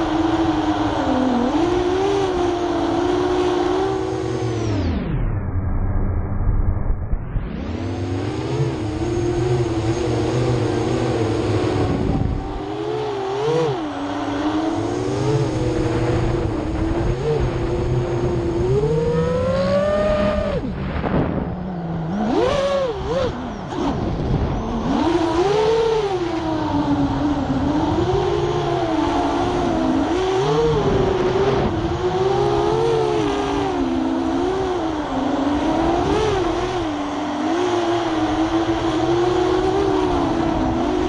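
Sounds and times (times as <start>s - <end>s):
quadcopter motor whine: 0.0s - 41.0s.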